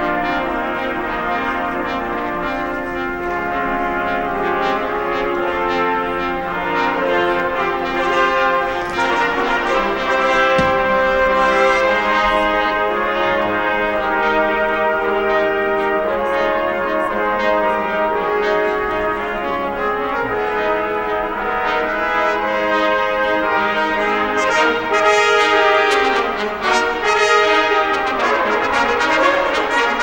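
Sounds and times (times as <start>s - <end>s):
brass chords: 0.0s - 30.0s.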